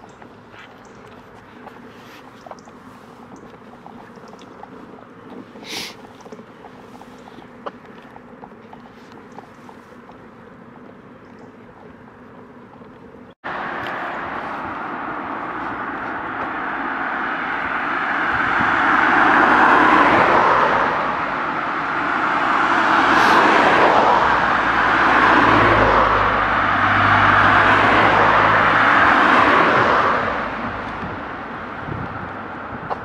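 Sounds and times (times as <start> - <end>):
cars passing on road: 0.0 - 33.0
low engine hum: 0.0 - 33.0.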